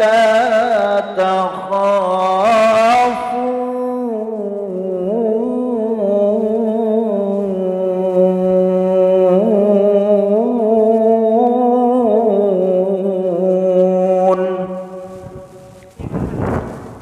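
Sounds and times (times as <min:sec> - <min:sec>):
man chanting recitation: 0:00.0 - 0:16.6.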